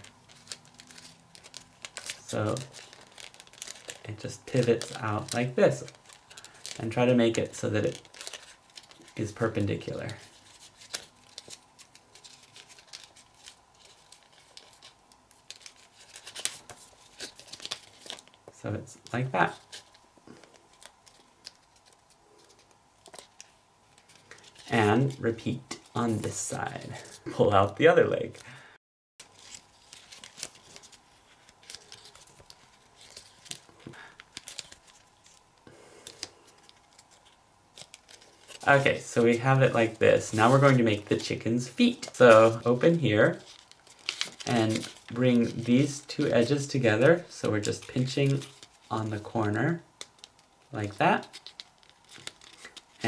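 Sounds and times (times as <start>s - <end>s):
paper crinkling and rustling: 0.0s - 28.4s, 29.2s - 53.0s.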